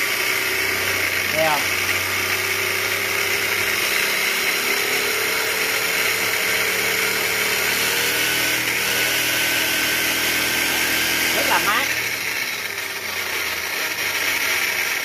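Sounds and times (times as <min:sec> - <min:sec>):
electric motor whine: 0:00.0 - 0:15.0
gear and drivetrain noise: 0:00.0 - 0:15.0.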